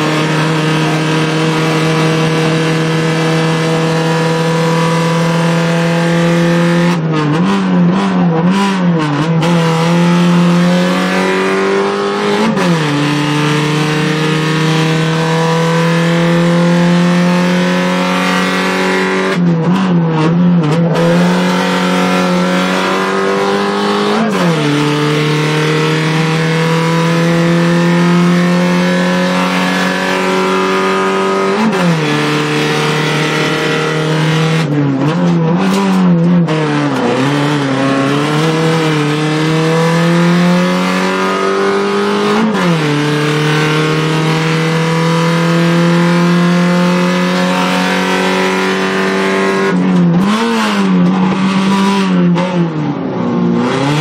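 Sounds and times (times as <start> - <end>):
rally car engine accelerating: 0.0 - 54.0.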